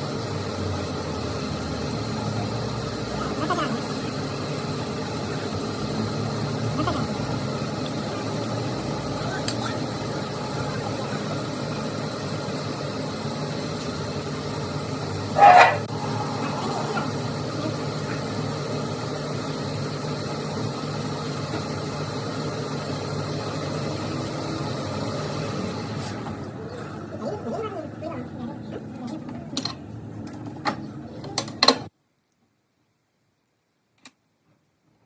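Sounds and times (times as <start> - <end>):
machine hum: 0.0 - 31.9.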